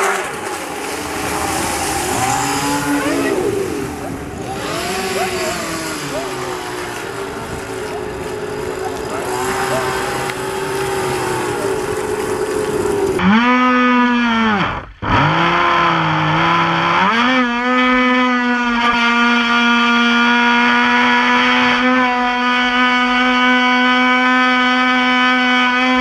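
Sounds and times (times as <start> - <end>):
model boat motor whining: 0.0 - 26.0.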